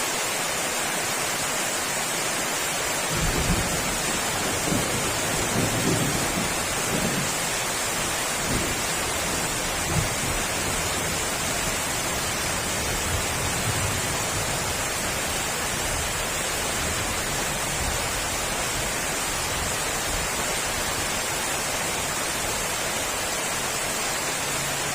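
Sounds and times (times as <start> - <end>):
heavy rain pouring: 0.0 - 24.9.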